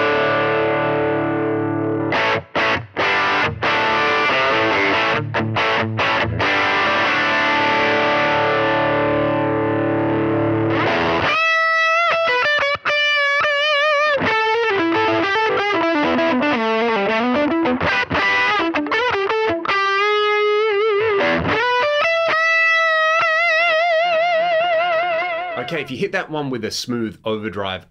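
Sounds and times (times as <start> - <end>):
electric guitar lead: 0.0 - 25.9.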